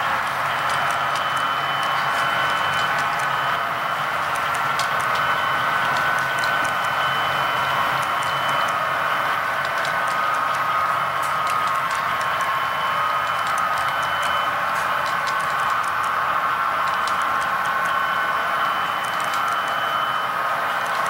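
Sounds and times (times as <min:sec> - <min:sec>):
model train rolling hum: 0:00.0 - 0:21.0.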